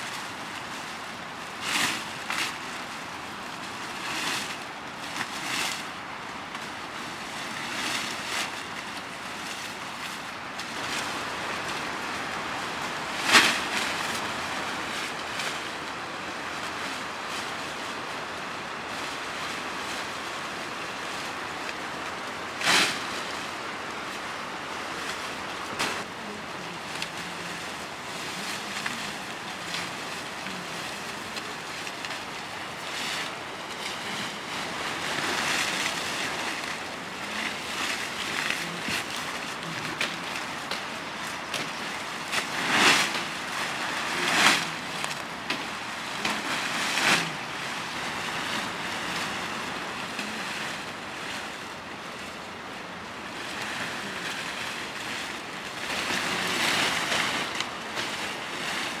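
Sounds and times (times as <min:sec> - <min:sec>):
leafy branches rustling: 0:00.0 - 0:59.0
steady rushing background noise: 0:00.0 - 0:59.0.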